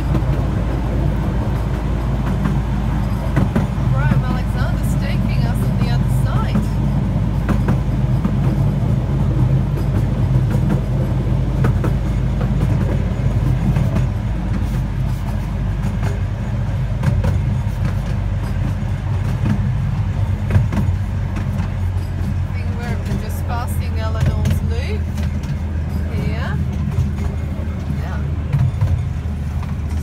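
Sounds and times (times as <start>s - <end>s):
clicks over rail joints: 0.0s - 30.0s
train wheels rumbling on rails: 0.0s - 30.0s.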